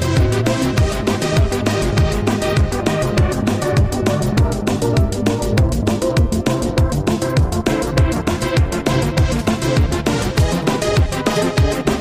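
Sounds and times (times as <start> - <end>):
electronic music with fast drum beat: 0.0 - 12.0.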